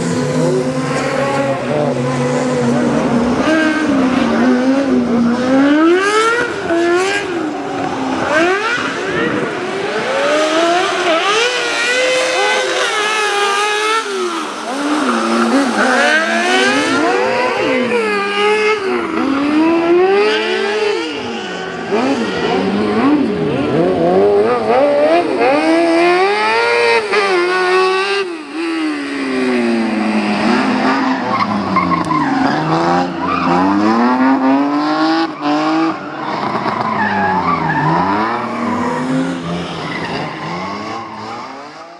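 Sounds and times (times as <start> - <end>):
buggy engines revving: 0.0 - 41.9.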